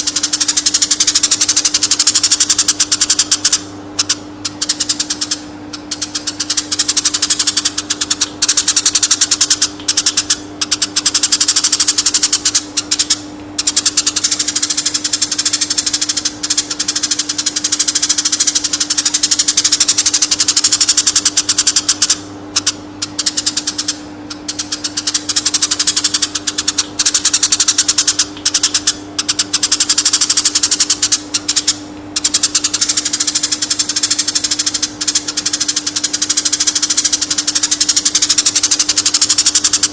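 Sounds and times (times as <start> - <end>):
steady low hum: 0.0 - 39.9
sparrow chirping: 0.1 - 39.9.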